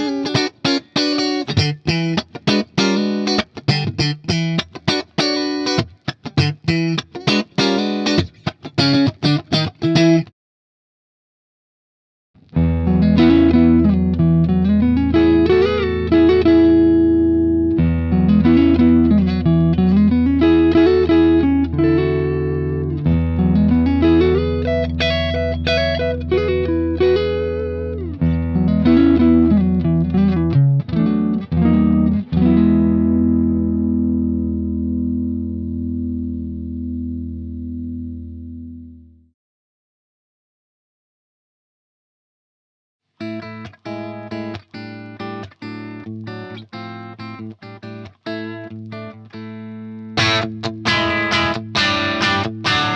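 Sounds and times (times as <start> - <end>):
clean electric guitar melody: 0.0 - 10.3, 12.4 - 39.3, 43.2 - 52.9.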